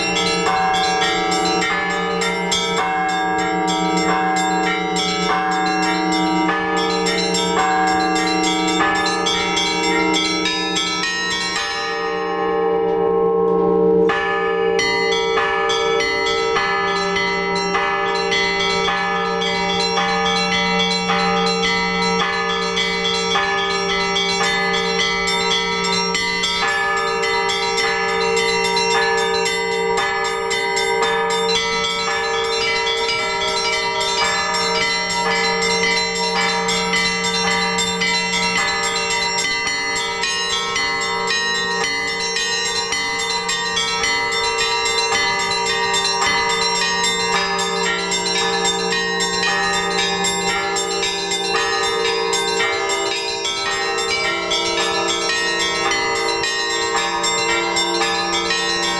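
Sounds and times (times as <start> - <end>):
large bells humming: 0.0 - 58.9
small church bells chiming: 0.0 - 58.9.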